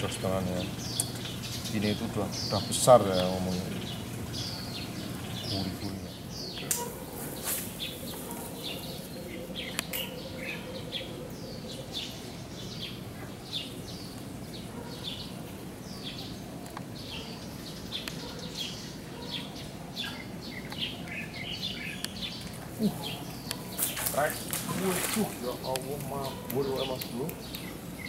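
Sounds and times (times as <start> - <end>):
small birds chirping: 0.0 - 28.0
steady background noise: 0.0 - 28.0.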